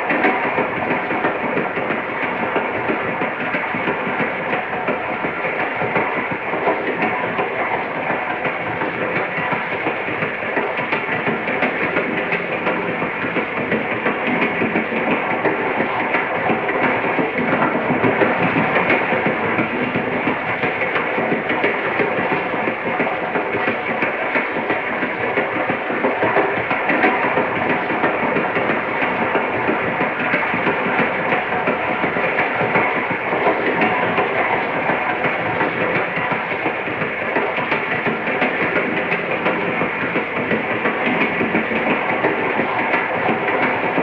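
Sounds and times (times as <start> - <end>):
train rumbling: 0.0 - 44.0
train wheels rattling on rails: 0.0 - 44.0.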